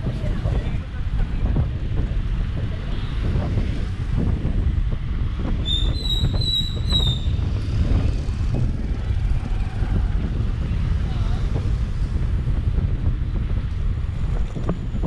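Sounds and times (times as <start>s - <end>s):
scooter road rumble: 0.0s - 15.0s
wind on microphone: 0.0s - 15.0s.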